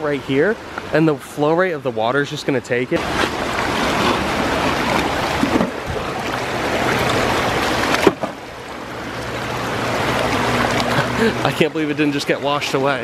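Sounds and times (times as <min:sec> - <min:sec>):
water rushing in rocky stream: 0:00.0 - 0:13.0.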